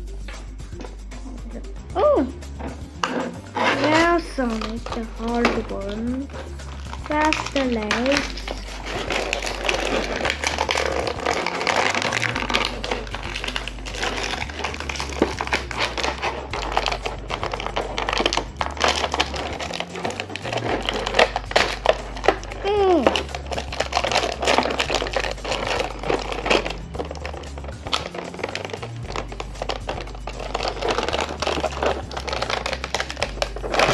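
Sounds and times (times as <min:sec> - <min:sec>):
background music with bass line: 0:00.0 - 0:33.9
plastic packaging crinkling: 0:03.0 - 0:33.9.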